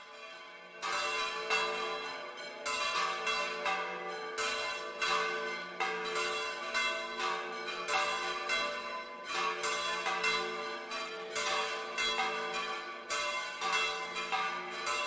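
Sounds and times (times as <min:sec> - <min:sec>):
church bells ringing a peal: 0:00.0 - 0:15.0.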